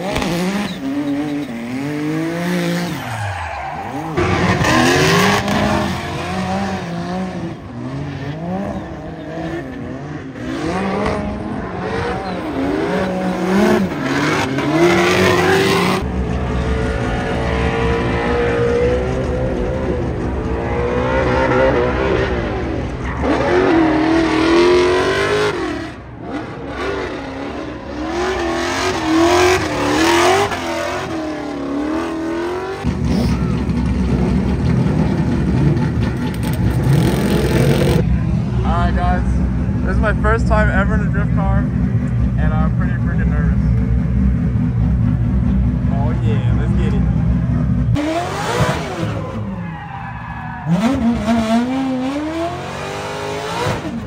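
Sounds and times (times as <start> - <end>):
car engine revving hard: 0.0 - 3.1, 3.8 - 38.1, 39.4 - 49.5, 50.6 - 54.0.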